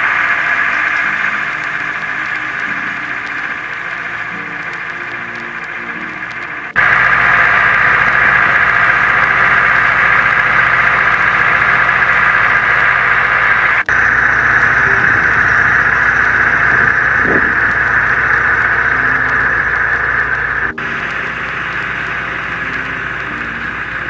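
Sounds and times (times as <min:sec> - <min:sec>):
loud mechanical drone: 0:00.0 - 0:24.0
low hum: 0:00.0 - 0:24.0.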